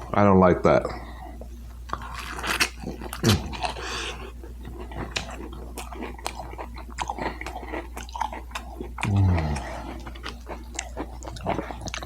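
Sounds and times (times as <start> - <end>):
chewing with wet mouth clicks: 1.4 - 12.0.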